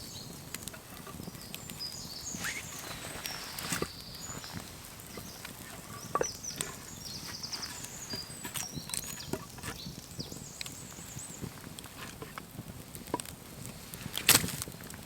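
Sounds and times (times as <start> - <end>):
small birds singing: 0.0 - 12.7.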